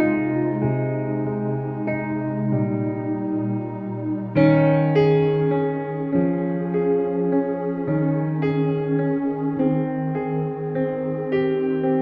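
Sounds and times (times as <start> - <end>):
calm ambient instrumental music: 0.0 - 12.0.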